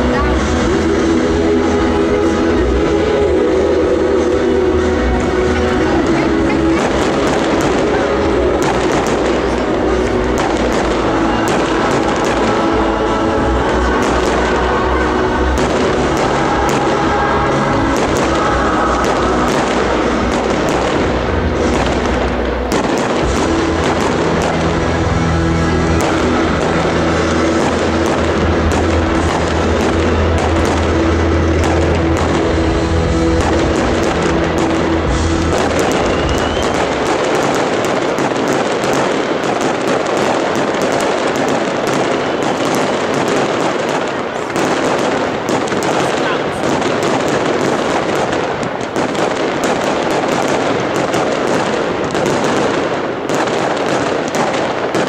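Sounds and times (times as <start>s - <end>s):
firework shells bursting: 6.8s - 55.0s.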